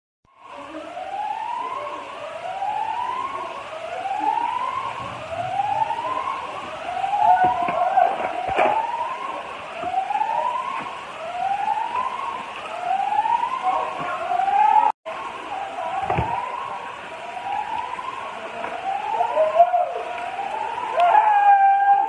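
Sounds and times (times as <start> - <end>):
electronic alarm siren whooping: 0.7 - 14.9, 15.5 - 22.0.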